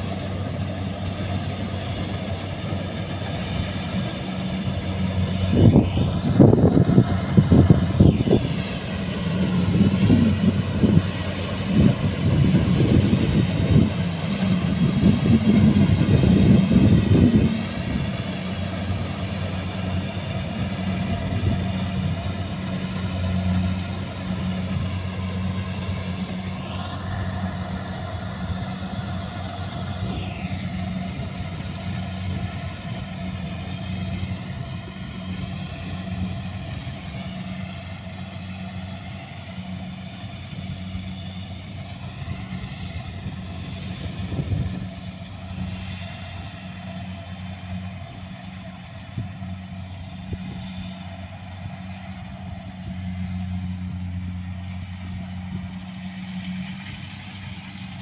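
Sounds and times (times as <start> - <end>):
combine harvester engine running: 0.0 - 58.0.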